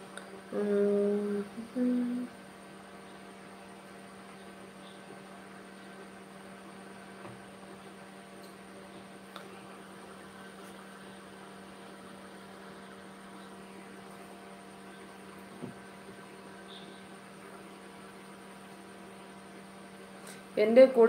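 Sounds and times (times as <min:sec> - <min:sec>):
low electrical mains hum: 0:00.0 - 0:21.0.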